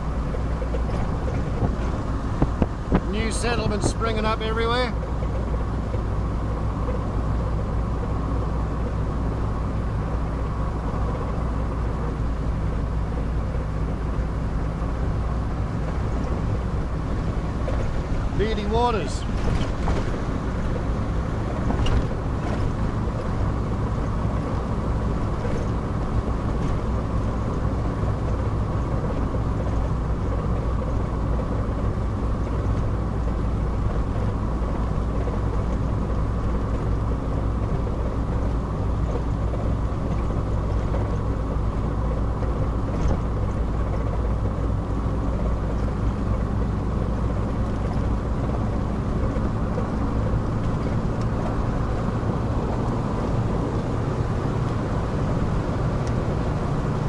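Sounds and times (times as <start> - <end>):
engine and road noise in cab: 0.0 - 57.0.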